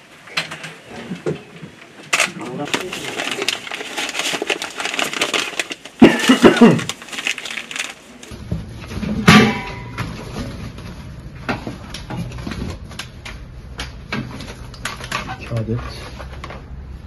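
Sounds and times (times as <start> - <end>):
paper and plastic bags rustling: 0.7 - 13.2, 14.2 - 16.7.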